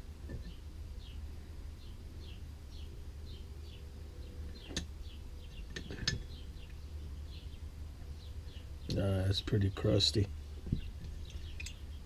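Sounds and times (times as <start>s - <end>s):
low steady hum: 0.0s - 12.0s
bird chirping: 0.4s - 12.0s.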